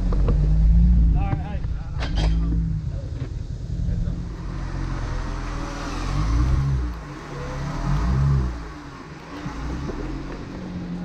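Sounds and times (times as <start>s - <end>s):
engine revving: 2.0s - 11.0s.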